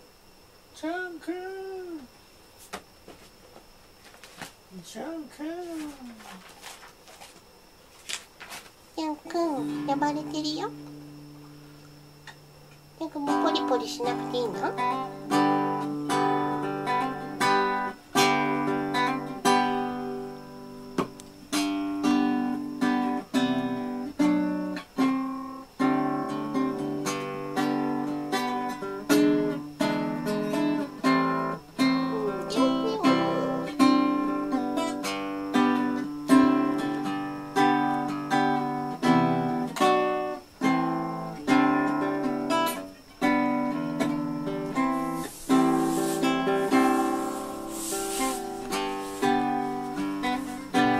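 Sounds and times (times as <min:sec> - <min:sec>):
acoustic guitar strumming chords: 0:09.4 - 0:50.9.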